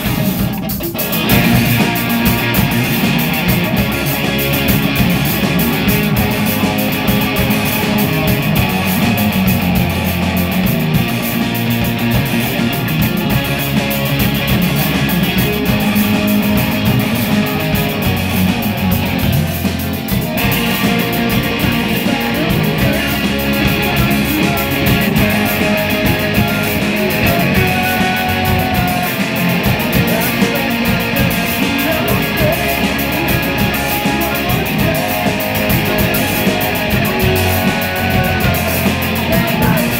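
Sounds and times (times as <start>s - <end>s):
electric guitars: 0.0s - 39.9s
rock band playing live: 0.0s - 39.9s.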